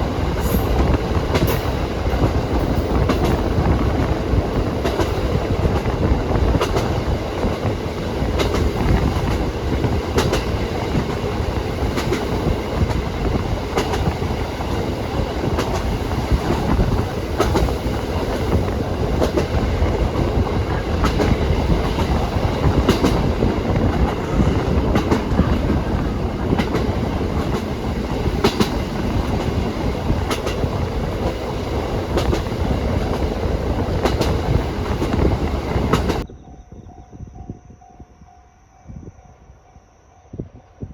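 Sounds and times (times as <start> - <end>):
train rumbling: 0.0 - 40.9
wheels clicking over rail joints: 0.4 - 3.7, 4.4 - 36.2.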